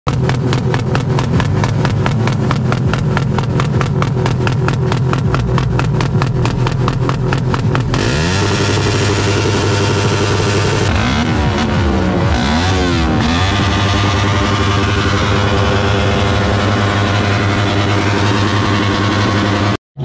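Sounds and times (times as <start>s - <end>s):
car engine revving: 0.1s - 19.8s.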